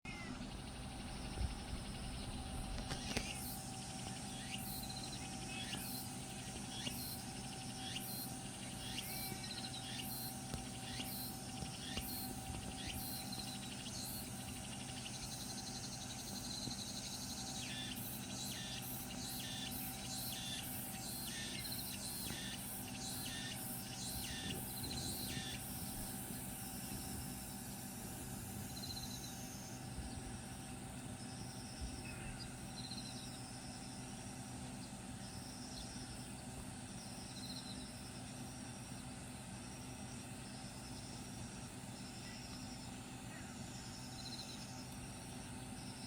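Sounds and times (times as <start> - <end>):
insects chirping: 0.1 - 46.0
steady low hum: 0.1 - 46.0.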